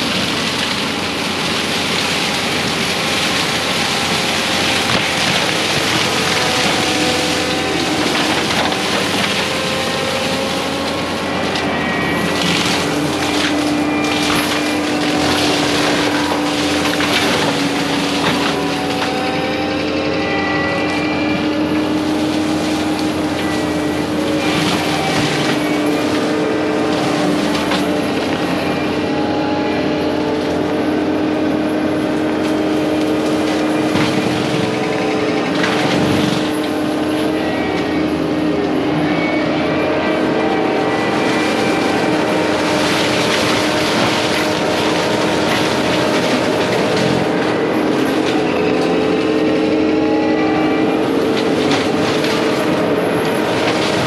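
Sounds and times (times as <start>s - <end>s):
forestry mulcher high whine: 0.0s - 54.0s
mulcher grinding brush: 0.0s - 54.0s.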